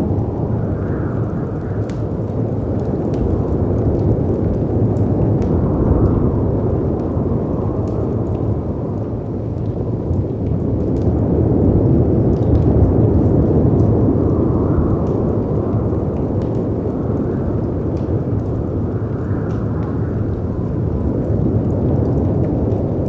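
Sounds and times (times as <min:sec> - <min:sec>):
fireplace fire crackling: 0:00.0 - 0:23.0
howling wind: 0:00.0 - 0:23.0.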